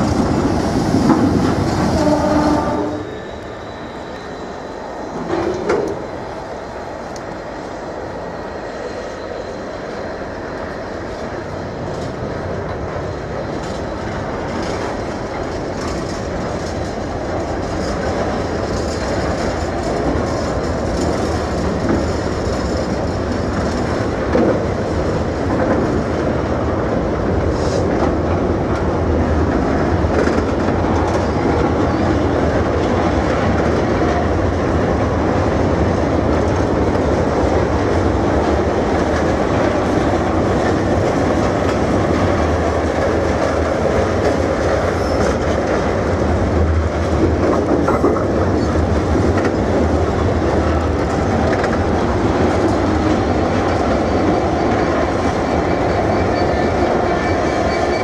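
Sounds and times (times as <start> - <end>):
freight train wheels clattering: 11.0 - 58.0.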